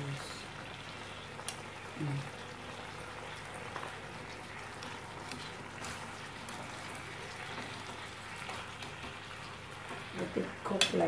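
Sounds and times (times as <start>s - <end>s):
food sizzling in a frying pan: 0.0s - 11.0s
small pops of frying: 0.0s - 11.0s.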